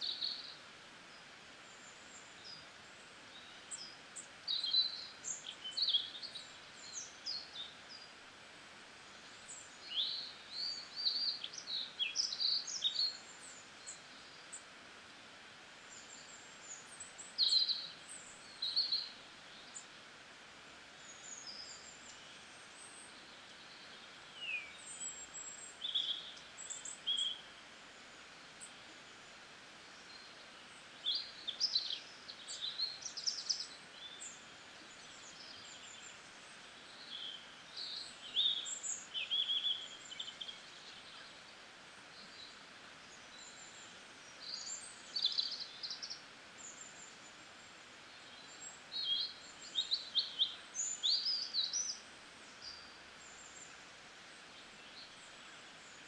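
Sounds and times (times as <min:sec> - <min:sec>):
faint steady hiss: 0:00.0 - 0:56.0
small birds chirping: 0:00.0 - 0:56.0.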